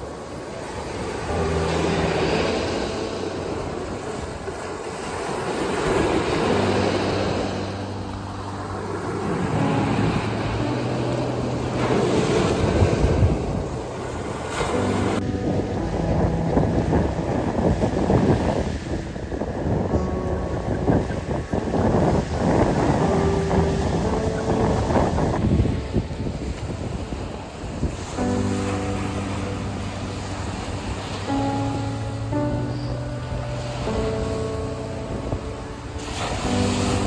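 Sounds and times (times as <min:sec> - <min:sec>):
small waves breaking on beach: 0:00.0 - 0:37.0.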